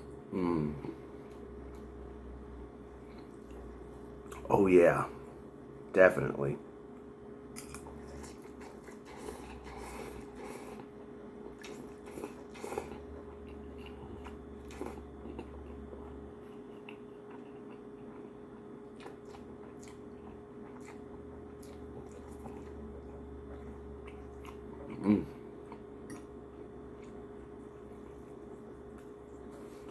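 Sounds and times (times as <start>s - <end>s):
steady low hum: 0.0s - 29.9s
man chewing noodles: 2.8s - 4.5s, 7.5s - 29.9s.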